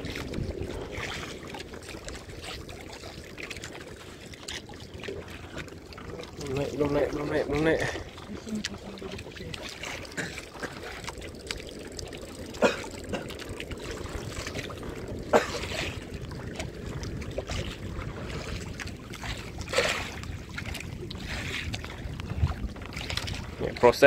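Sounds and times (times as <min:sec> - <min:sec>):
water sloshing against boat hull: 0:00.0 - 0:24.0.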